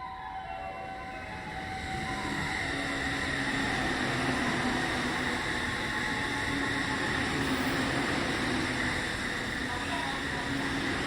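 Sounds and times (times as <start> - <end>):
train wheels rumbling on rail: 1.2 - 11.0.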